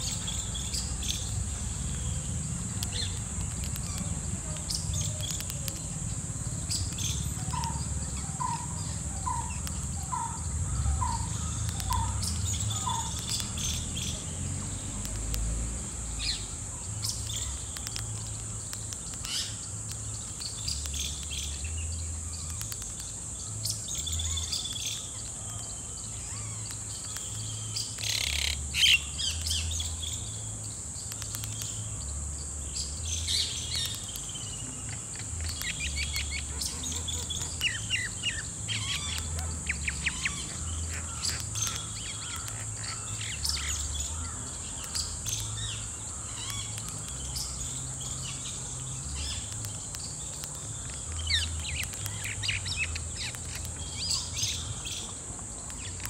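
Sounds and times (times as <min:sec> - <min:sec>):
small birds chirping: 0:00.0 - 0:56.0
steady high hiss: 0:00.0 - 0:56.0.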